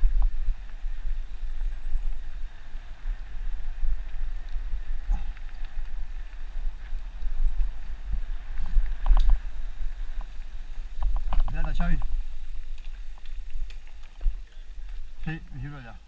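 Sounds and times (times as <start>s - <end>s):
bicycle tyres rolling on dirt: 0.0s - 16.0s
bike clicks and rattles: 0.0s - 16.0s.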